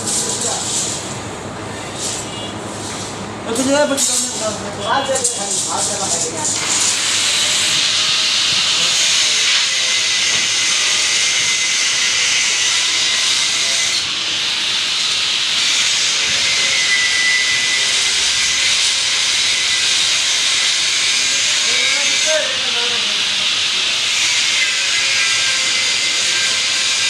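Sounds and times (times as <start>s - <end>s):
loud steady hiss: 3.2s - 27.0s.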